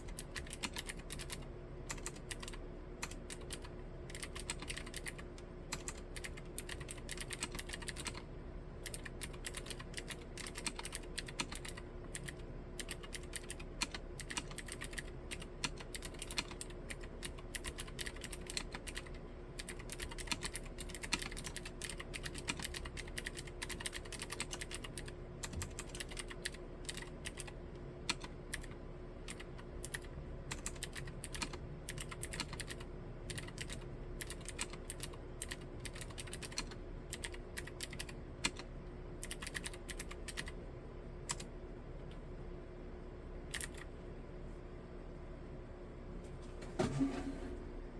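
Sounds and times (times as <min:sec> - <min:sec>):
fast typing on mechanical keyboard: 0:00.0 - 0:40.6, 0:43.5 - 0:43.9.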